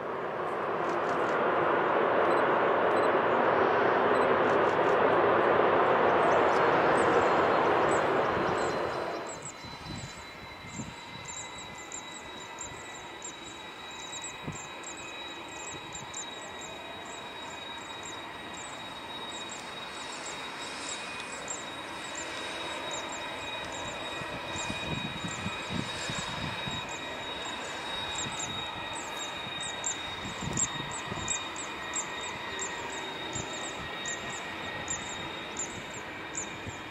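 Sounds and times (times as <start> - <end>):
jet engine idle whine: 0.0 - 36.9
jet engines roaring in reverse thrust: 0.0 - 36.9.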